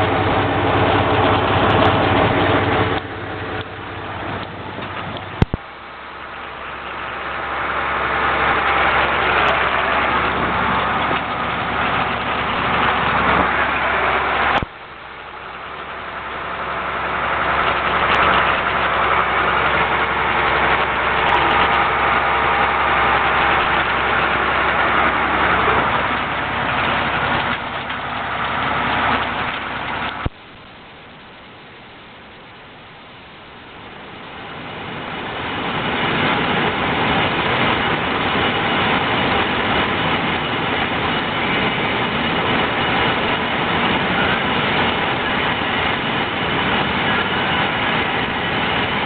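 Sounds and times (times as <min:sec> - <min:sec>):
tractor running: 0:00.0 - 0:49.0.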